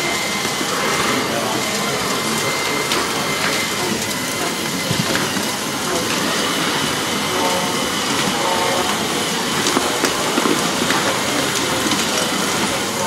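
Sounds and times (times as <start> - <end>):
hydraulic pump whirring: 0.0 - 13.0.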